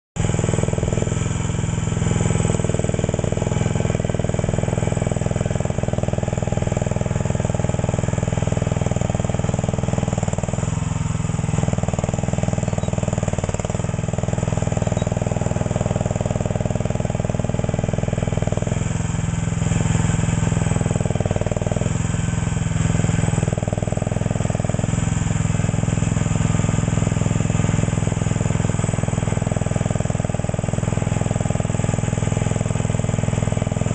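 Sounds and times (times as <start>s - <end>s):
mini excavator engine running: 0.2s - 33.9s.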